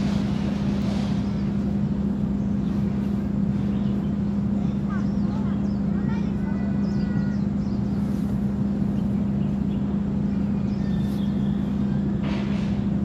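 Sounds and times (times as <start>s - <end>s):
constant rumble: 0.0s - 13.0s
low mechanical hum: 0.0s - 13.0s
faint bird chirps: 1.0s - 12.3s.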